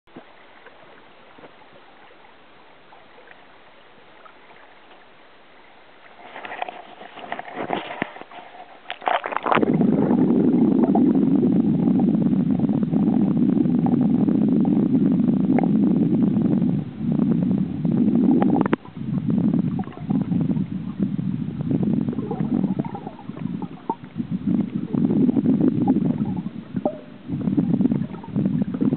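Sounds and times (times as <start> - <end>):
underwater river current rumble: 0.1 - 28.9.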